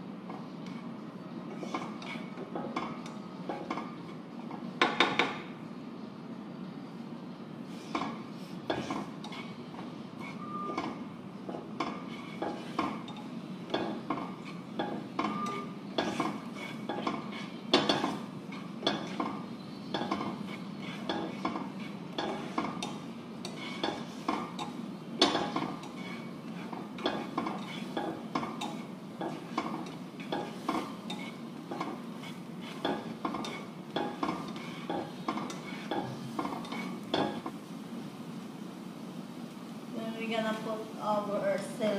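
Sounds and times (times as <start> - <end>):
spatula scraping frying pan: 0.4 - 4.6, 7.7 - 37.7.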